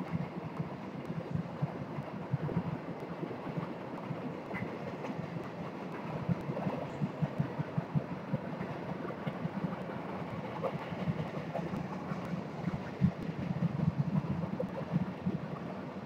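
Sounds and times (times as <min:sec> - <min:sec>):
train wheels rolling on rail: 0:00.1 - 0:16.0.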